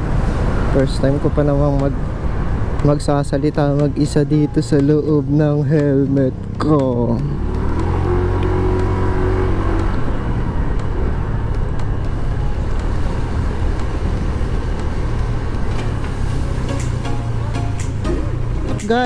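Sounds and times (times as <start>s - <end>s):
wind and road rush: 0.0s - 19.0s.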